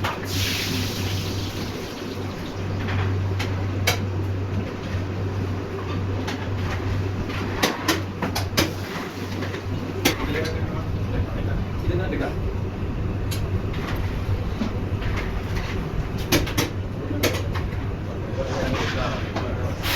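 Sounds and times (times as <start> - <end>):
machinery humming: 0.0 - 19.9.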